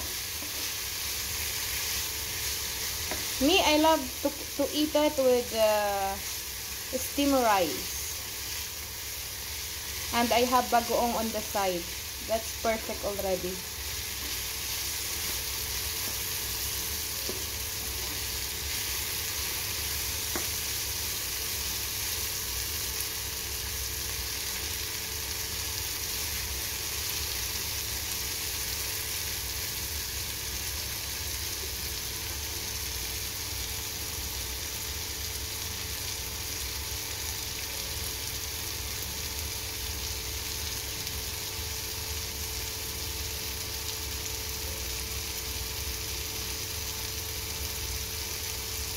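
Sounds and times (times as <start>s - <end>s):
vegetables sizzling in a pan: 0.0s - 48.9s.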